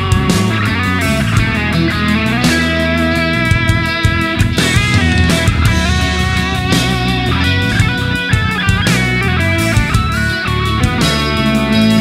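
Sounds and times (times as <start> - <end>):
guitar-led rock music: 0.0 - 12.0
steady drum beat: 0.0 - 12.0.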